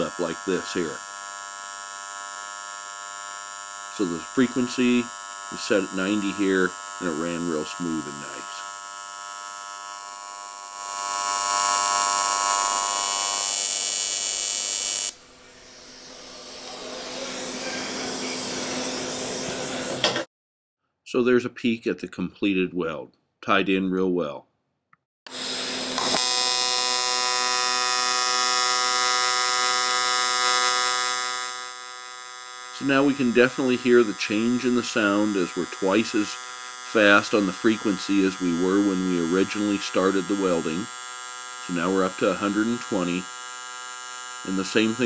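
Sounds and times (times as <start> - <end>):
welding arc buzzing: 0.0 - 20.3, 25.3 - 45.0.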